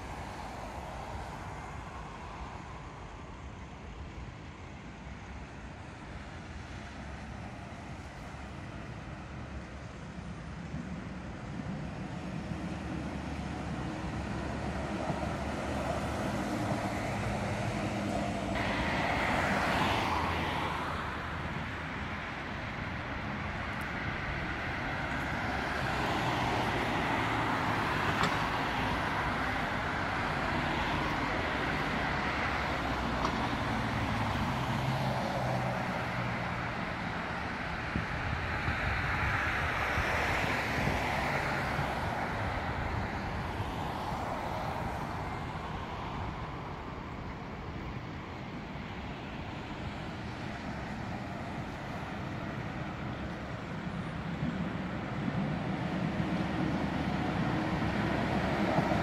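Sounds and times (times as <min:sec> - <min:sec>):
cars passing: 0:00.0 - 0:59.0
tram passing: 0:00.0 - 0:59.0.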